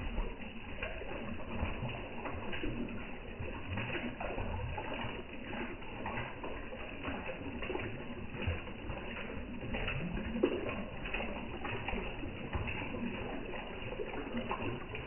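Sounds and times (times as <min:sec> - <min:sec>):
fish splashing and slurping: 0:00.0 - 0:15.0.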